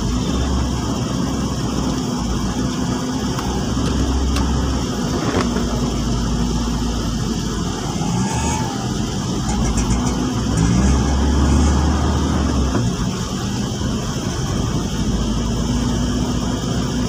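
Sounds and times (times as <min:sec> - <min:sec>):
car engine drone: 0:00.0 - 0:17.0
tyres on wet road: 0:00.0 - 0:17.0.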